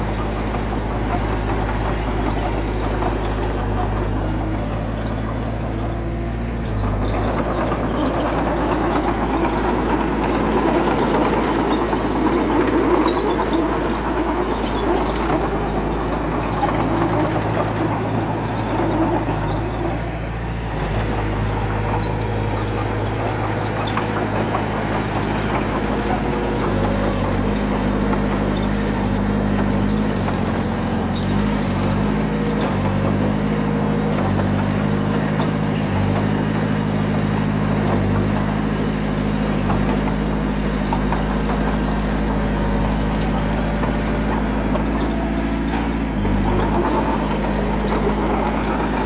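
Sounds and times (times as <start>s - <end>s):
bulldozer diesel engine under load: 0.0s - 49.0s.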